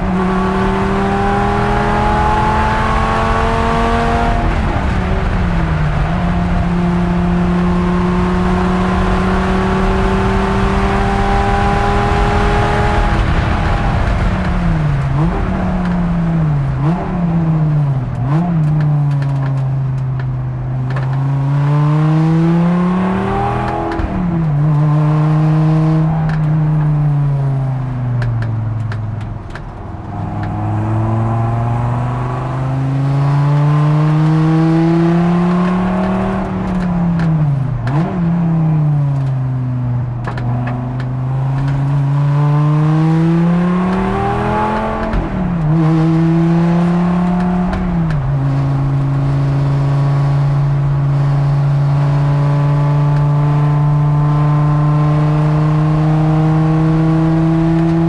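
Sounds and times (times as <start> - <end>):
race car engine from cockpit: 0.0 - 58.0.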